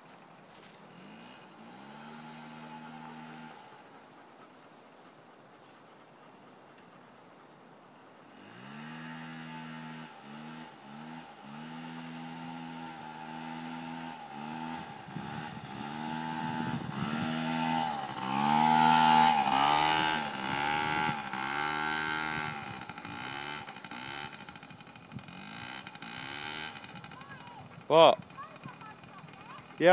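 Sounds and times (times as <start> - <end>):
motorbike engine revving: 0.5 - 4.3, 8.2 - 29.9.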